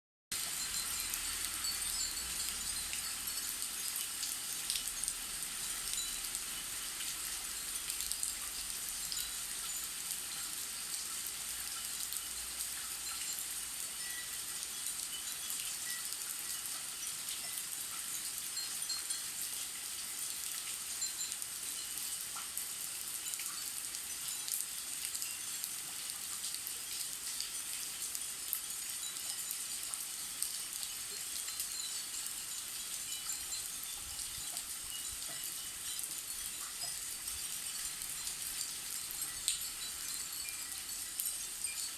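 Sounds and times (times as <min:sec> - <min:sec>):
wind chimes tinkling: 0:00.4 - 0:26.4, 0:27.2 - 0:41.9
steady rain falling: 0:00.4 - 0:41.9.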